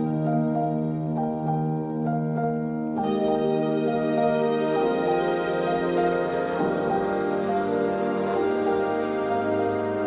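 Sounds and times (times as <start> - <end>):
soft calm instrumental music: 0.0 - 10.0.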